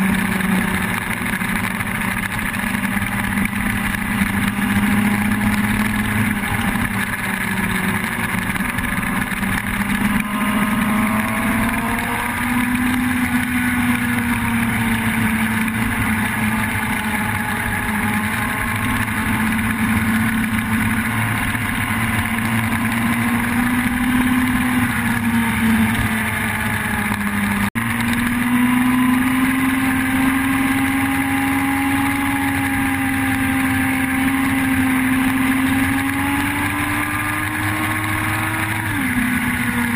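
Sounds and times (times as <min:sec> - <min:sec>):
fainter engine notes: 0:00.0 - 0:39.9
motorcycle engine running: 0:00.0 - 0:39.9.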